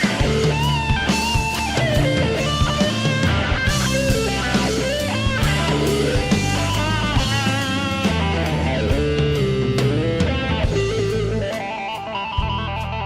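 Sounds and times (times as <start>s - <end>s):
bass: 0.0s - 13.0s
drums: 0.0s - 13.0s
electric guitar soloing: 0.0s - 13.0s.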